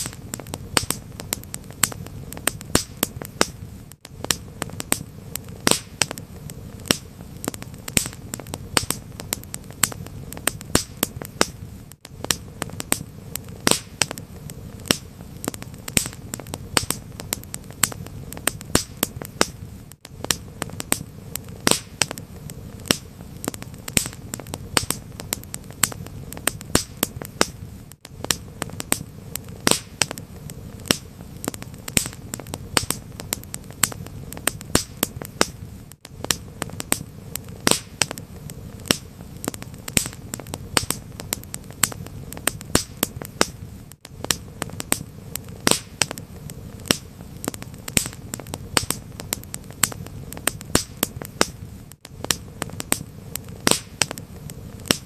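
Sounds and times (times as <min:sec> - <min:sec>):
low rumble of burning fire: 0:00.0 - 0:55.0
wood fire crackling and popping: 0:00.0 - 0:55.0.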